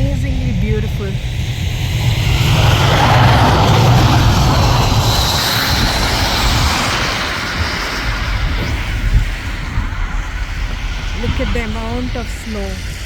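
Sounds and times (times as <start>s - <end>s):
vehicle road noise rush: 0.0s - 13.0s.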